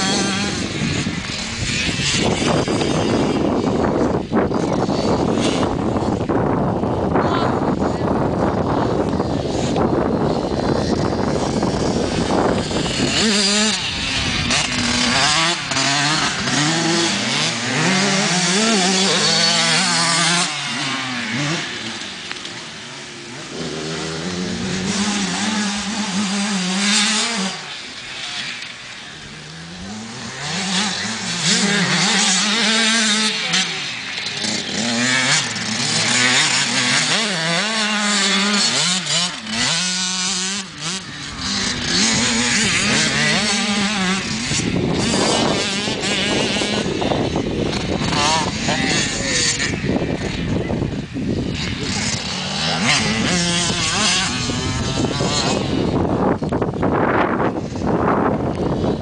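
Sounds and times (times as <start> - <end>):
wind rumble on microphone: 0.0 - 22.2, 23.3 - 27.6, 29.2 - 59.0
motocross bike engines revving: 0.0 - 59.0.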